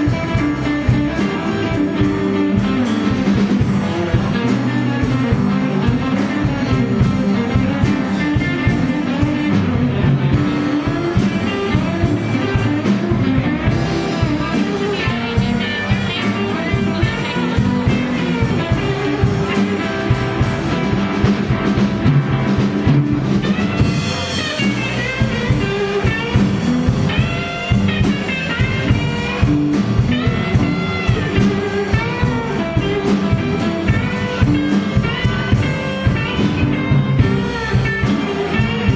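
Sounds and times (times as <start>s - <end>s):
blues band playing: 0.0s - 38.9s
sliding lead guitar line: 0.0s - 38.9s.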